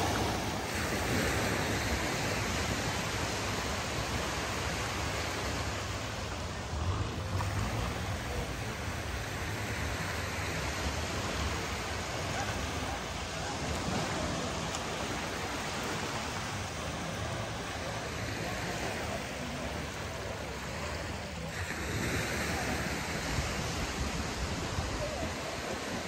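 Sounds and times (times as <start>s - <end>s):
small waves washing on sand: 0.0s - 26.0s.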